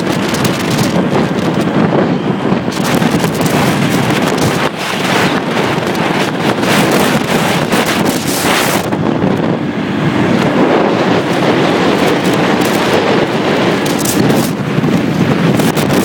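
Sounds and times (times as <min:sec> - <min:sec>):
road and traffic noise: 0:00.0 - 0:16.0
wind buffeting microphone: 0:00.0 - 0:16.0.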